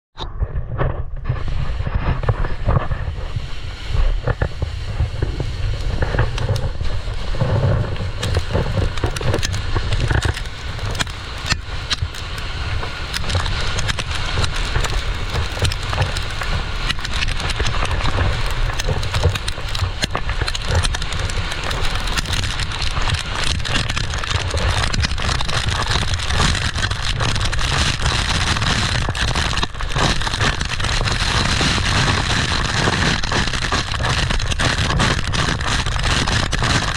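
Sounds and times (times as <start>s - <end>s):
wind buffeting microphone: 0.2s - 36.9s
board sliding on gravel: 1.2s - 36.9s.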